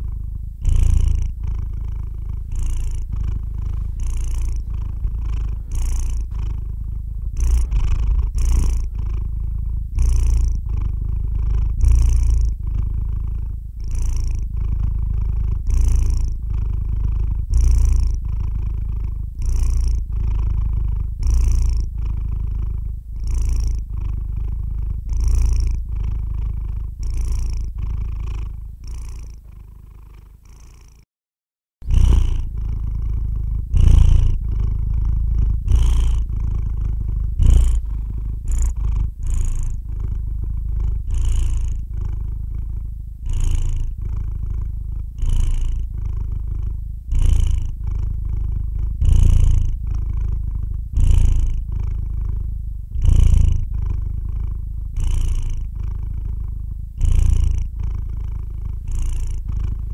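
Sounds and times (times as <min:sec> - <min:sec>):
cat purring: 0:00.0 - 0:31.1, 0:31.8 - 0:59.9.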